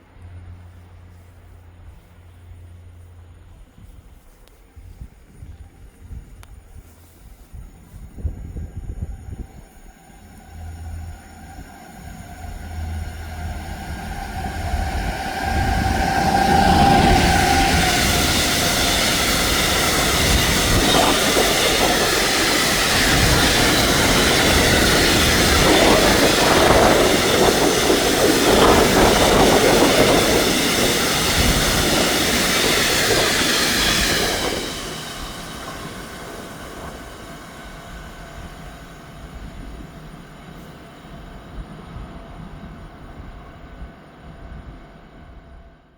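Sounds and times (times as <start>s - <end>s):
train wheels rushing on rails: 0.0s - 45.8s
train steady tone: 0.0s - 45.9s.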